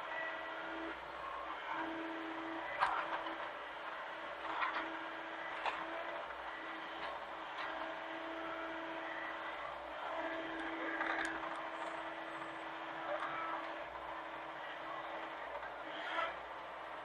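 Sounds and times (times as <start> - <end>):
excavator diesel engine humming: 0.0 - 17.0
faint clicks and scrapes: 2.6 - 8.2, 9.0 - 17.0.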